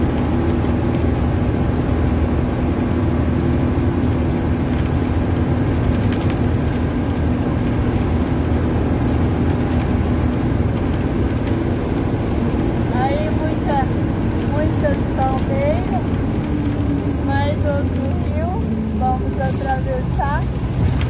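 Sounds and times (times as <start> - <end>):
engine drone: 0.0 - 21.0
tyre and road noise: 0.0 - 21.0.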